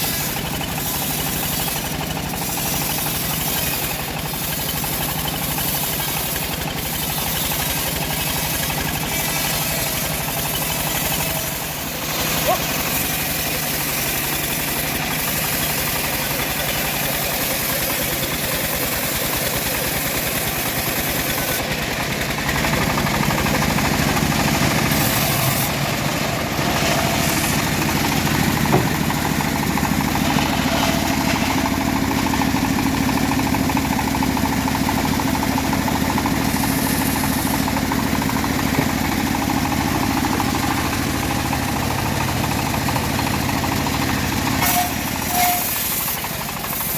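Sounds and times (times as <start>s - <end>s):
bandsaw mill sawing log: 0.0s - 46.9s.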